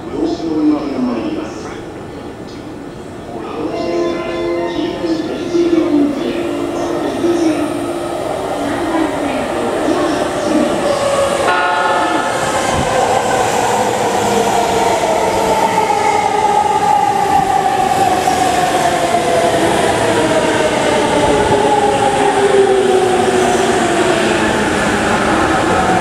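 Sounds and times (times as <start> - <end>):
train wheels rumbling on rails: 5.2 - 26.0.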